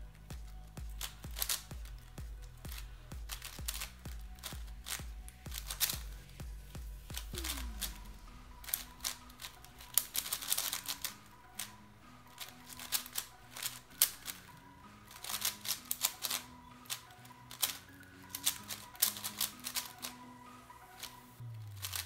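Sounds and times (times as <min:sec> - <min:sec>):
puzzle cube plastic clicking: 0:00.1 - 0:06.4, 0:07.1 - 0:22.0.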